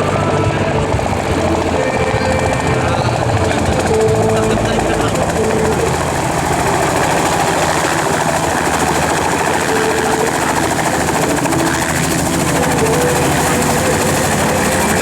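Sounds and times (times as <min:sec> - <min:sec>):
helicopter engine and rotor noise: 0:00.0 - 0:15.0.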